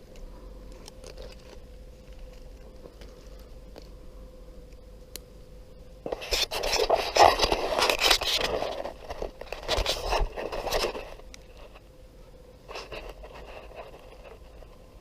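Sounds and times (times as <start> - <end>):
scraping and rustling: 0.0 - 4.0, 6.0 - 11.9, 12.6 - 15.0.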